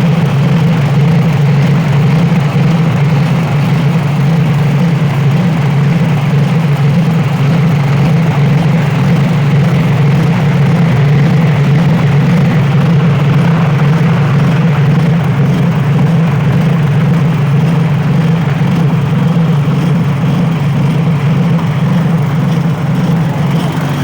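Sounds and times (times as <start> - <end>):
small petrol engine running: 0.0 - 24.0.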